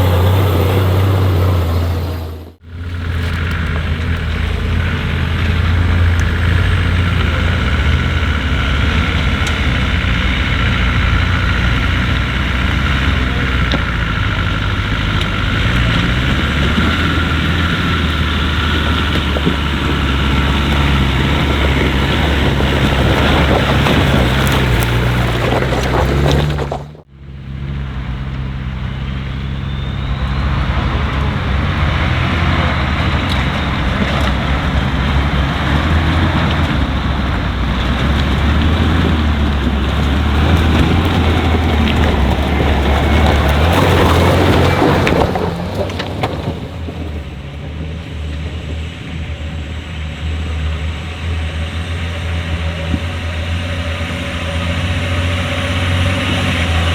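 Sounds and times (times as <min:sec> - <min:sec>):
off-road vehicle engine running: 0:00.0 - 0:56.9.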